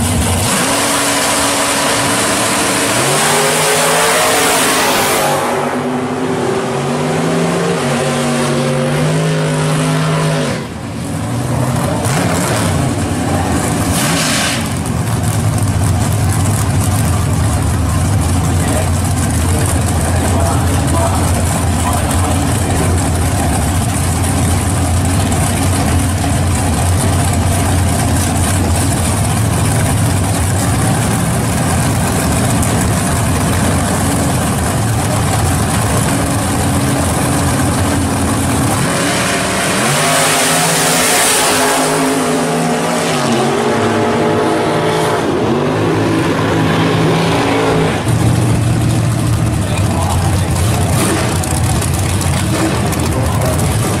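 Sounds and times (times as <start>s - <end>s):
race car engines accelerating: 0.0s - 54.0s
race car engines rumbling: 0.0s - 54.0s.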